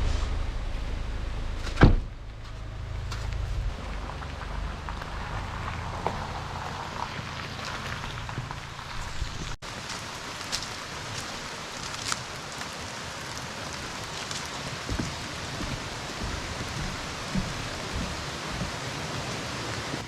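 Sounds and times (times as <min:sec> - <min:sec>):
water rushing over rocks: 0:03.7 - 0:20.0.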